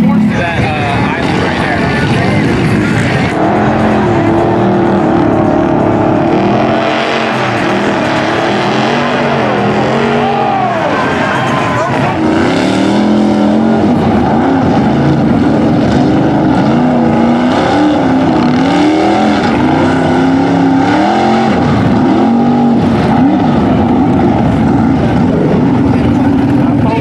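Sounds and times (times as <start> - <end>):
off-road vehicle engines revving: 0.0 - 27.0.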